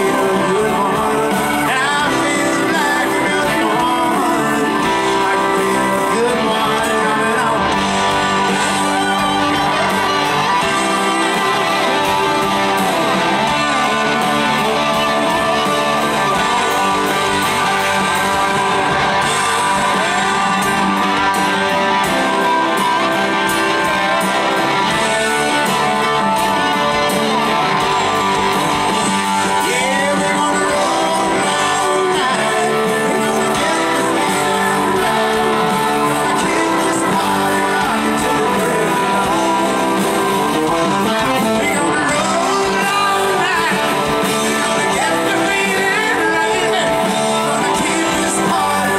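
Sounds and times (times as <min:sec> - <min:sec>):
drums: 0:00.0 - 0:48.9
electric guitars: 0:00.0 - 0:48.9
rock band playing live: 0:00.0 - 0:48.9
sung vocals: 0:00.0 - 0:48.9.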